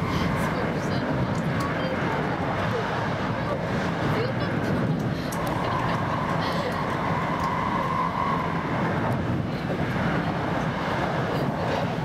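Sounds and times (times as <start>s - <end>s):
rumble of wheels on rails: 0.0s - 12.0s.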